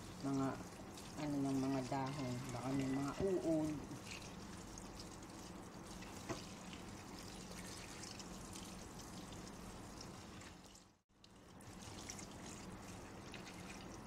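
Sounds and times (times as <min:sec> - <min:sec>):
tap water running into colander: 0:00.0 - 0:14.0.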